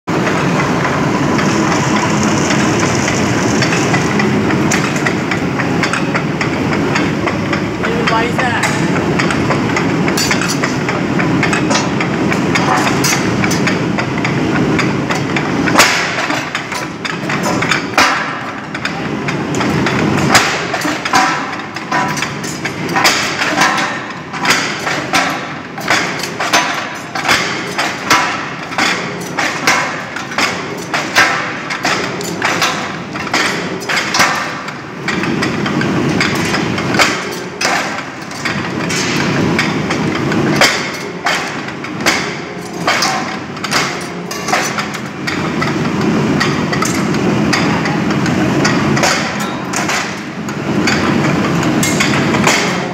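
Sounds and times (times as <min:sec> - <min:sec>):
sharp metallic clanks: 0:00.1 - 0:52.9.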